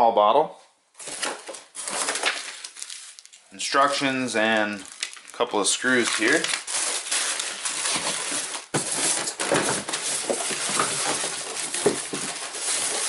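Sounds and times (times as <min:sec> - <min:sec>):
packaging rustling and crinkling: 0:01.0 - 0:13.0.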